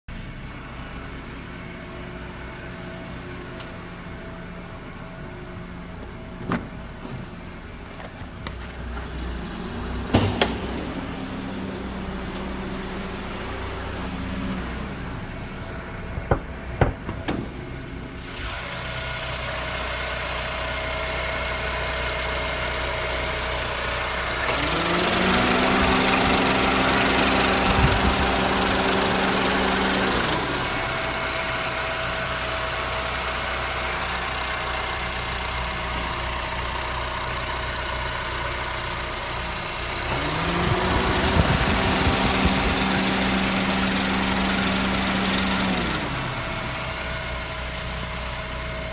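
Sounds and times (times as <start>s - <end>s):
car engine idling: 0.1s - 48.9s.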